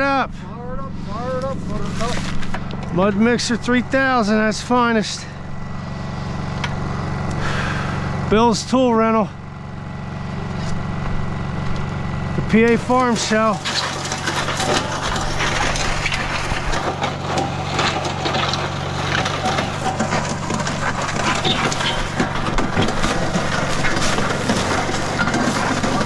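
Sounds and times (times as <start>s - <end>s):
concrete mixer motor hum: 0.0s - 26.0s
gravel rattling in mixer: 1.0s - 26.0s.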